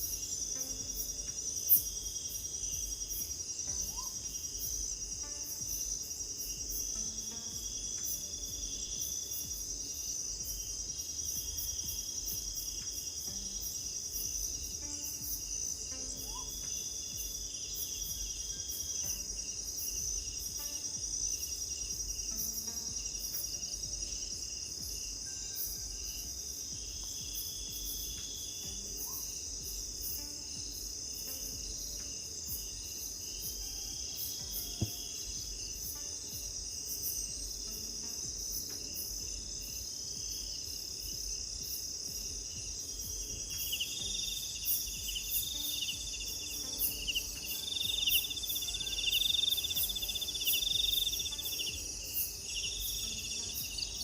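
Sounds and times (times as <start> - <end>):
crickets trilling: 0.0 - 54.0
faint short insect call: 0.0 - 54.0.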